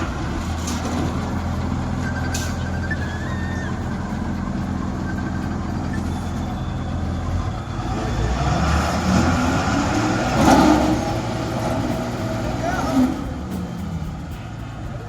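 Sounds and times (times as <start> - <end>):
diesel machinery engine running: 0.0 - 15.0.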